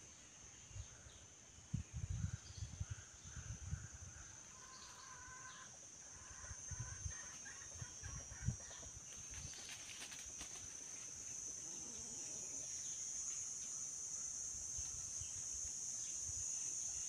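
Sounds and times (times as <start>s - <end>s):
high-pitched insect drone: 2.3s - 17.0s.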